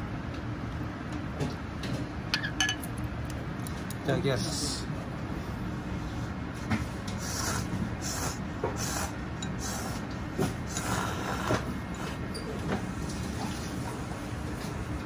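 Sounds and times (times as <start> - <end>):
low kitchen rumble: 0.0 - 15.0.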